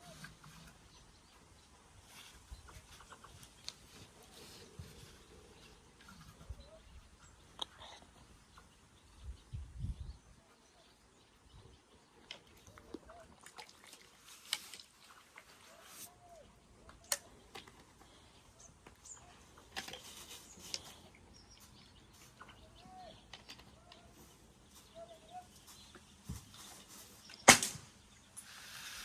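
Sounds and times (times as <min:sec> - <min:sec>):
soft bird calls: 0:00.0 - 0:29.0.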